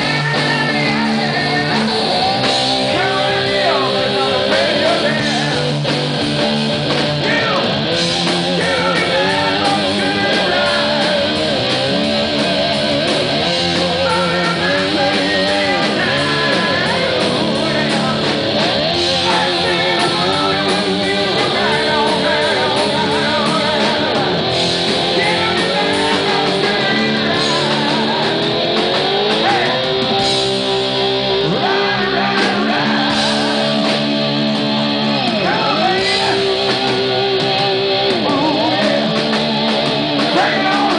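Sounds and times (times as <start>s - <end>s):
bass: 0.0s - 40.9s
drums: 0.0s - 40.9s
electric guitar lead: 0.0s - 40.9s.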